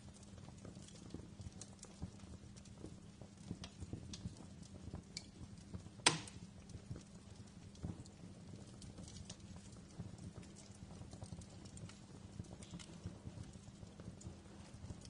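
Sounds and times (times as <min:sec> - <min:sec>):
wood fire crackling: 0:00.0 - 0:15.0
small snaps and pops: 0:00.1 - 0:15.0.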